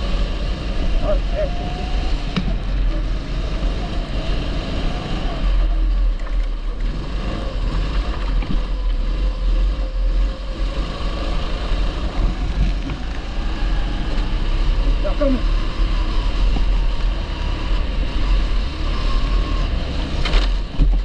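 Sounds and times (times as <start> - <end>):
kart engine running: 0.0 - 21.0.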